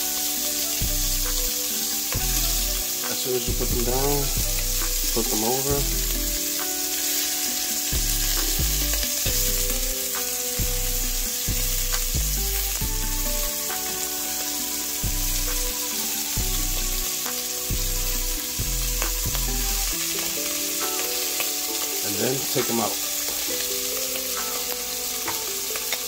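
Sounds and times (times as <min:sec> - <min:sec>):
background music with beat: 0:00.0 - 0:26.0
shrimp sizzling in oil: 0:00.0 - 0:26.0.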